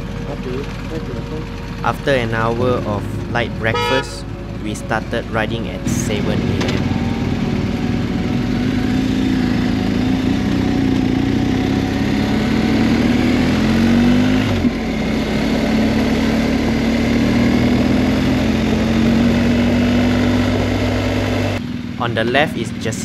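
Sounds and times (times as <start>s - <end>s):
motorcycle engine pulling away: 4.3s - 23.0s.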